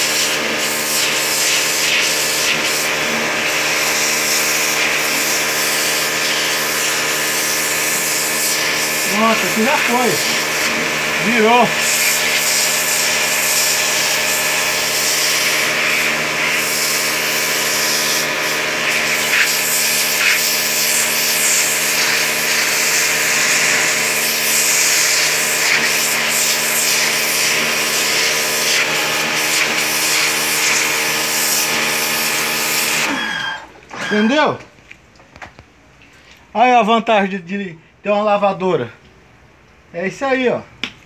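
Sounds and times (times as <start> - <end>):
pressure washer running: 0.0 - 34.4.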